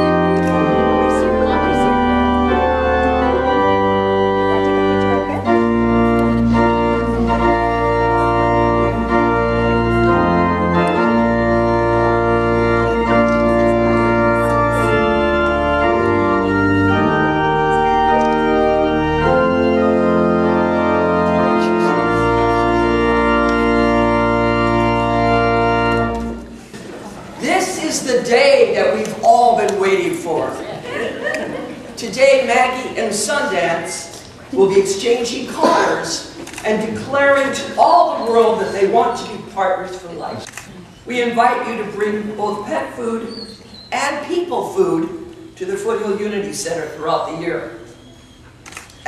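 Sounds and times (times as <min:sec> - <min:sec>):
organ playing slow chords: 0:00.0 - 0:49.0.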